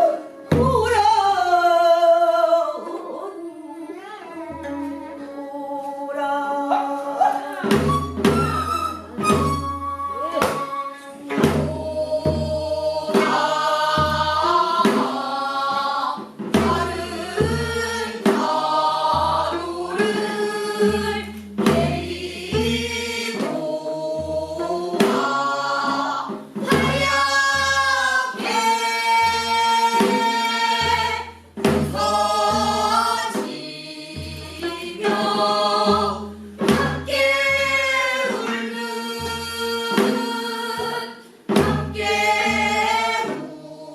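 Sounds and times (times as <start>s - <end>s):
group of singers singing: 0.0s - 43.9s
barrel drum strokes: 7.6s - 43.9s.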